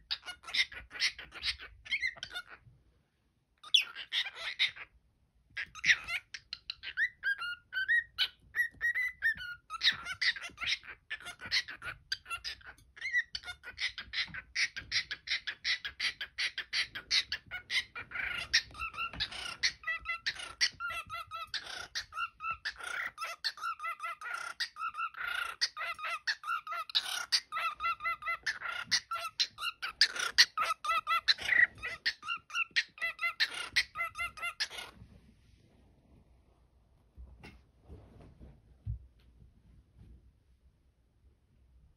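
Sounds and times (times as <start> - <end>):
cockatiel chattering and warbling: 0.0 - 2.7, 3.6 - 35.0.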